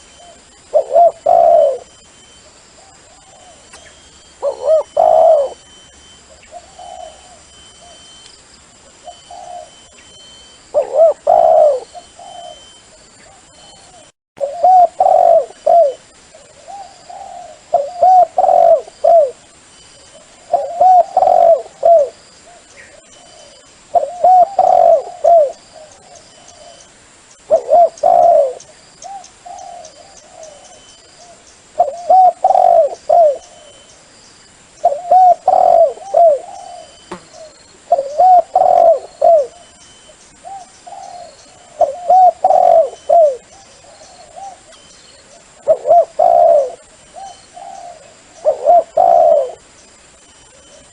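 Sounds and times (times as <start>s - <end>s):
dove cooing: 0.0s - 2.0s, 4.4s - 8.0s, 8.9s - 19.4s, 20.1s - 26.9s, 27.5s - 33.9s, 34.8s - 49.7s.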